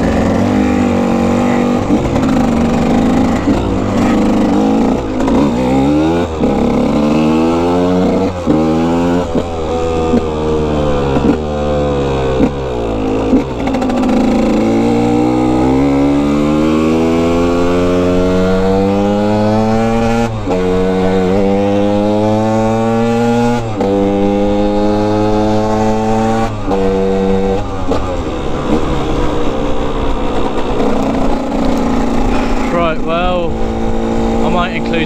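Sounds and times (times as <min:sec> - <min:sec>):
dirt bike engine accelerating: 0:00.0 - 0:35.0.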